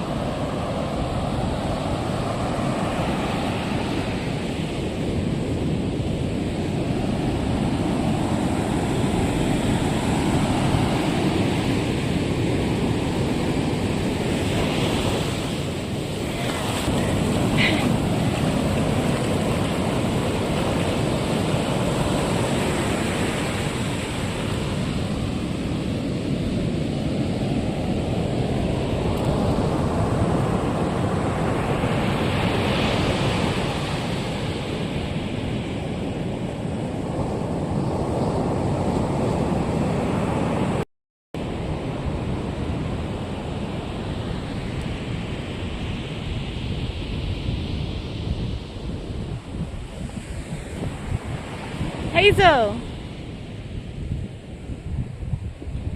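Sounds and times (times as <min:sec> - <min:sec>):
ocean surf breaking: 0:00.0 - 0:40.8, 0:41.4 - 0:53.6
wind buffeting microphone: 0:00.0 - 0:40.8, 0:41.4 - 0:55.9.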